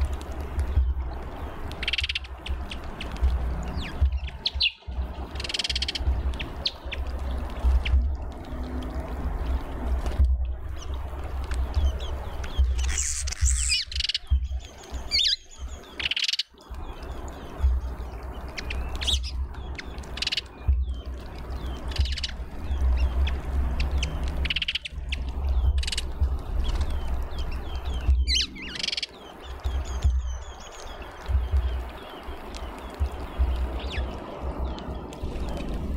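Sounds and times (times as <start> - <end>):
steady low rumble: 0.0 - 16.0, 16.6 - 35.9
songbirds chirping: 0.0 - 35.9.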